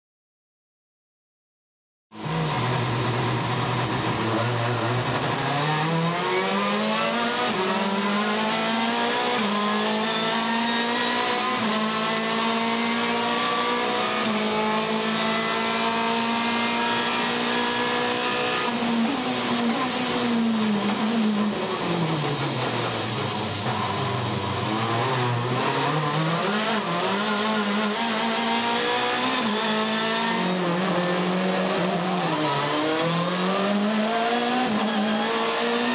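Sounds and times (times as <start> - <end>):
racing car engines revving: 2.2 - 35.9.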